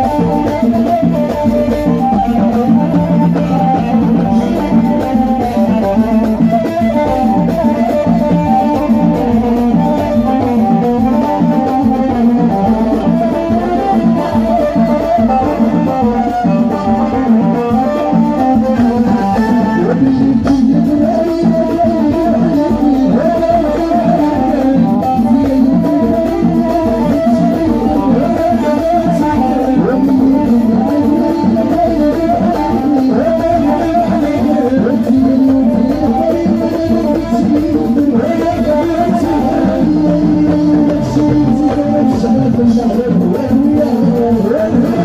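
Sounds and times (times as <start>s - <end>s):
plucked string instruments: 0.0s - 45.0s
steady drum beat: 0.0s - 45.0s.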